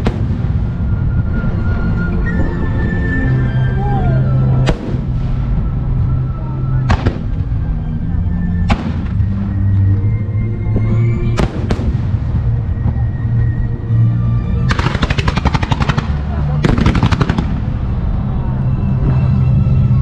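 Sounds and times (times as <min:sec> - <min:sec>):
music playing: 0:00.0 - 0:20.0.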